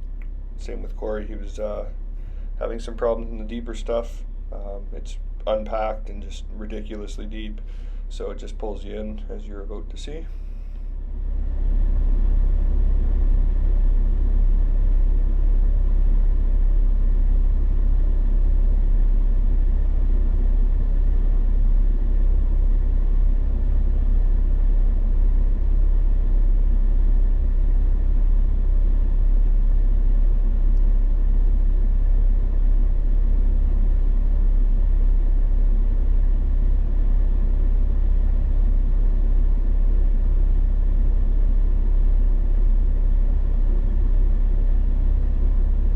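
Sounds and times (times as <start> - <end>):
off-road vehicle engine rumbling: 0.0 - 45.9.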